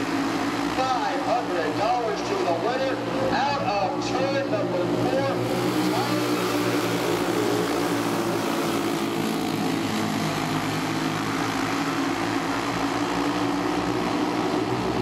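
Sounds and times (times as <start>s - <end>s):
racing karts engines droning: 0.0s - 15.0s.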